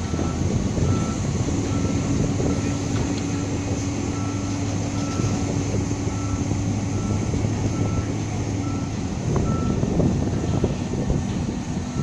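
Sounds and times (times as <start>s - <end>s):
crane engine running: 0.0s - 12.0s.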